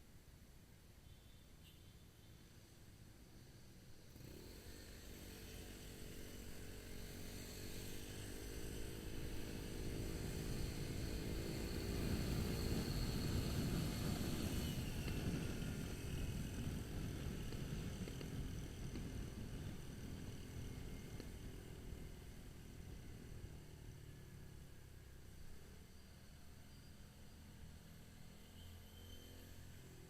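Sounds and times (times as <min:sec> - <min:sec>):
vehicle engine in traffic: 0:00.1 - 0:30.0.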